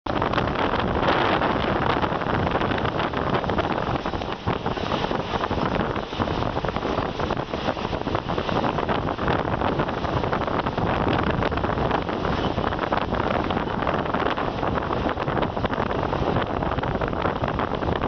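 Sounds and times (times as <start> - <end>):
train carriage rumbling on track: 0.1 - 18.0
wind rushing over microphone: 0.1 - 18.0.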